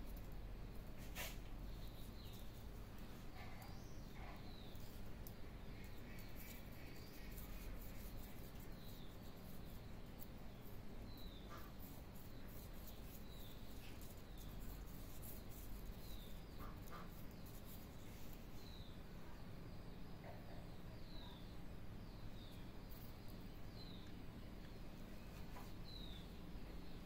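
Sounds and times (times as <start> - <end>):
bird chirping: 0.8 - 27.0.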